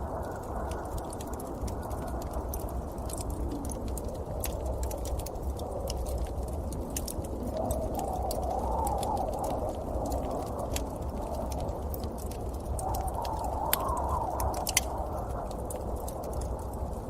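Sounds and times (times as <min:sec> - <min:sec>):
blizzard wind rushing: 0:00.0 - 0:17.0
sharp crackling ticks: 0:00.0 - 0:17.0.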